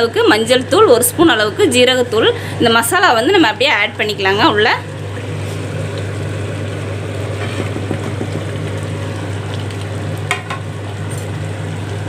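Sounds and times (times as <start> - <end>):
gravy bubbling in a pot: 0.0 - 12.0
low steady hum: 0.0 - 12.0.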